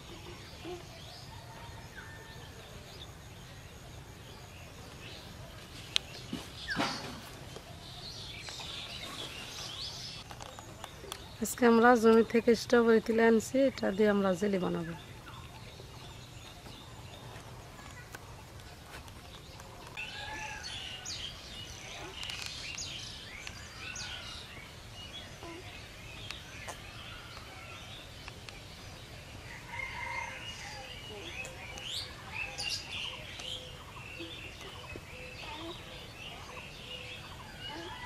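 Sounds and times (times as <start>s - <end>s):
birds chirping and calling: 0.0s - 38.0s.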